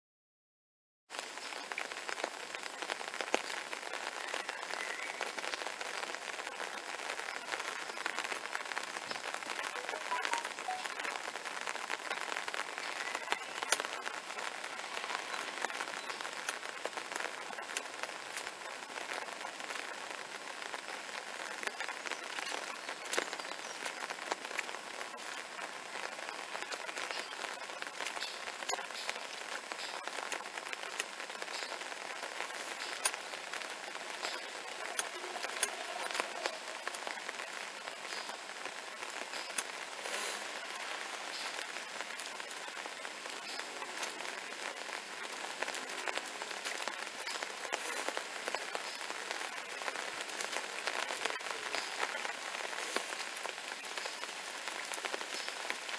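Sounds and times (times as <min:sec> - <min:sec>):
steady rain patter: 0:01.1 - 0:55.9.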